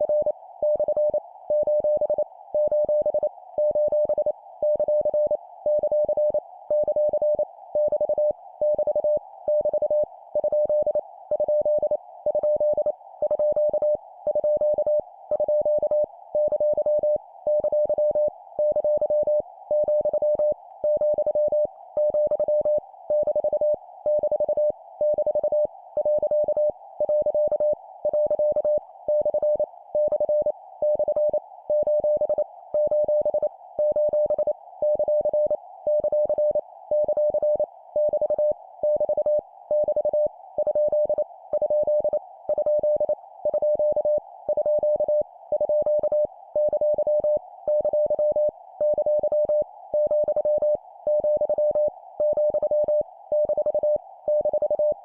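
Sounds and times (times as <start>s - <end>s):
morse code beeps: 0.1s - 55.0s.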